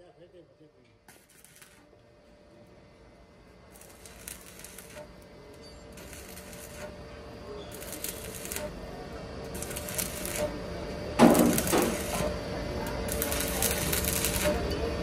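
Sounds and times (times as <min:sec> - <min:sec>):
welding arc crackling: 0:01.0 - 0:02.0, 0:03.4 - 0:15.0.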